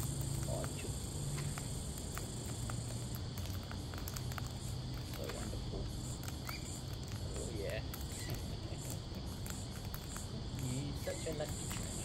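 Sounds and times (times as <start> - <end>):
beaks and claws clicking: 0.0 - 12.0
high-pitched insect drone: 0.0 - 12.0.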